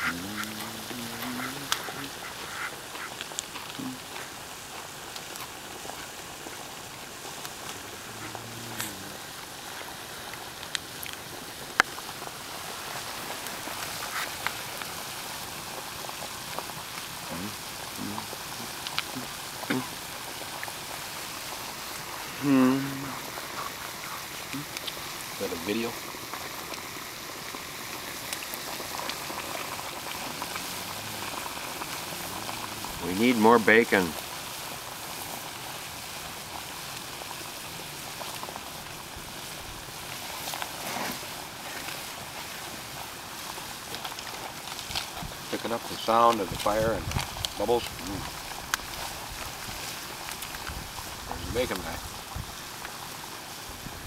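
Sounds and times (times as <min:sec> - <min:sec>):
fire pops and crackles: 0:00.0 - 0:54.0
sap boiling with bubbling hiss: 0:00.0 - 0:54.0.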